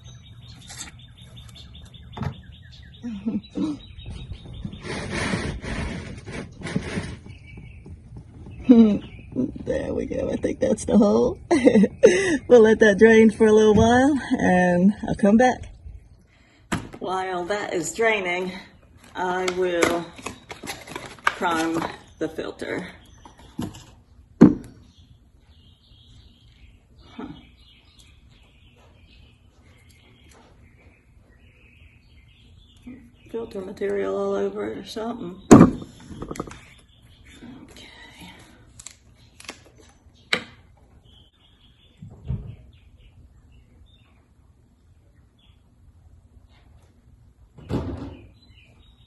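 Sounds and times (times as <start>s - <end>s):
small birds chirping: 0.0s - 6.0s, 7.0s - 49.0s.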